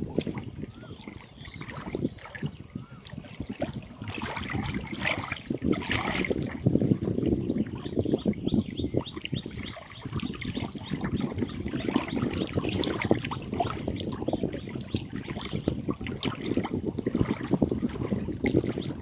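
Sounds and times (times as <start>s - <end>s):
waves lapping on stony shore: 0.0s - 8.3s, 8.9s - 19.0s.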